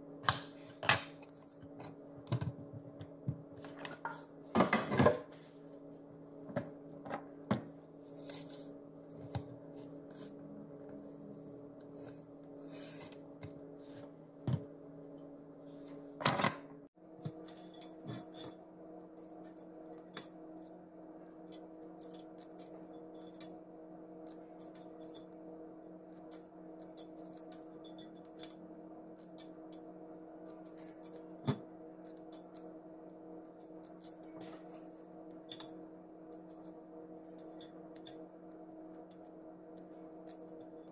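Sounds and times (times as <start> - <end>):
steady hum: 0.0 - 40.9.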